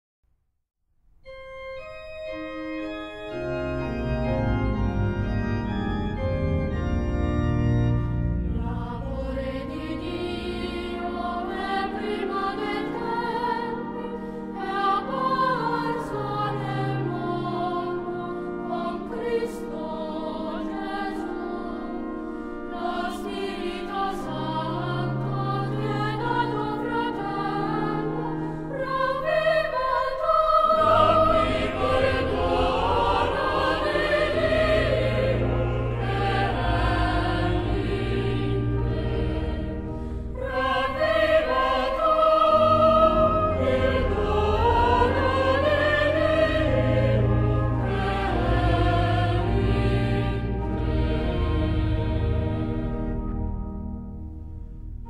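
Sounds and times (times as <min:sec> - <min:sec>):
organ chords: 0:01.2 - 0:55.0
choir singing: 0:08.0 - 0:53.6.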